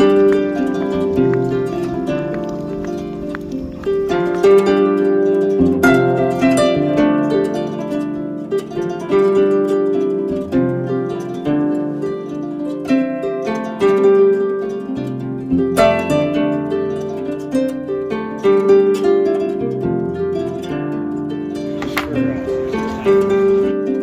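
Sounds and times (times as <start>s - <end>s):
plucked harp-like strings: 0.0s - 24.0s.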